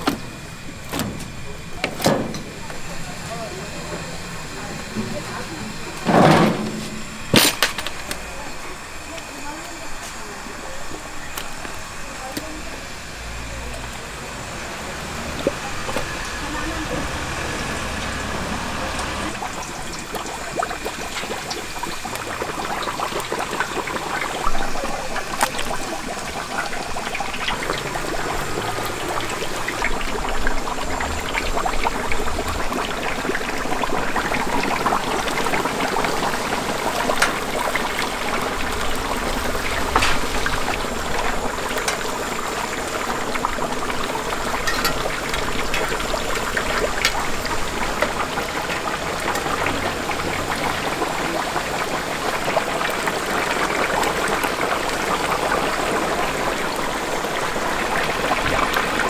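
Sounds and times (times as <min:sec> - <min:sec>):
oil popping and crackling: 0:00.0 - 0:59.0
oil sizzling: 0:00.0 - 0:59.0.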